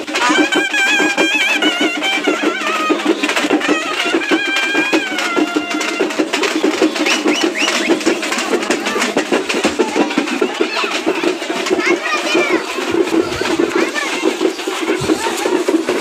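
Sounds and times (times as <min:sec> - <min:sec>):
drums beaten fast: 0:00.0 - 0:16.0.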